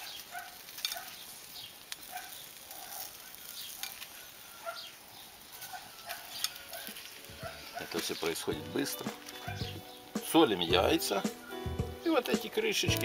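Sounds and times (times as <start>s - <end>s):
sausages sizzling on a grill: 0.0s - 13.0s.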